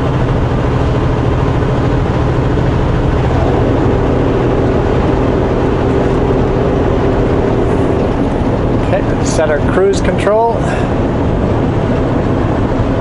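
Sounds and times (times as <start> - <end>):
road noise: 0.0 - 13.0
steady higher hum: 0.0 - 13.0
truck engine running: 0.0 - 13.0.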